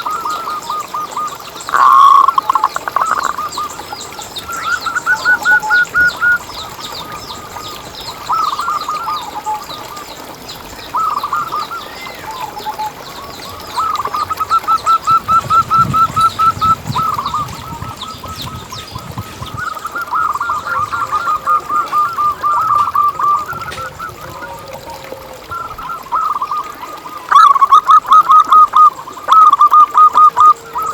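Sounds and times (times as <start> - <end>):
birds chirping: 0.0 - 30.9
doves cooing: 0.0 - 30.9.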